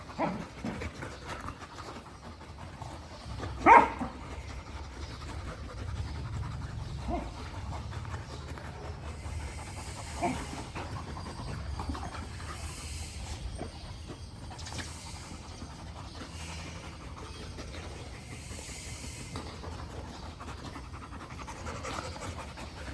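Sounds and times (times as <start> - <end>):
dog panting: 0.0 - 22.9.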